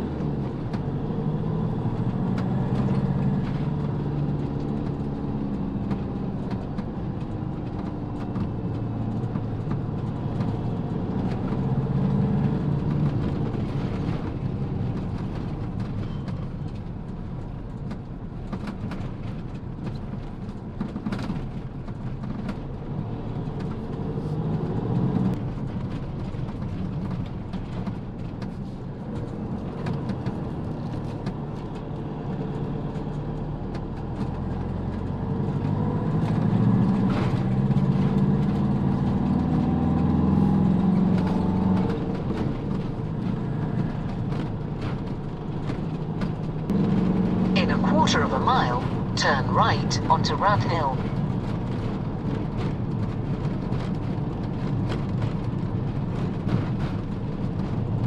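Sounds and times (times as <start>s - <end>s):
road noise: 0.0s - 58.0s
vehicle engine hum: 0.0s - 58.0s.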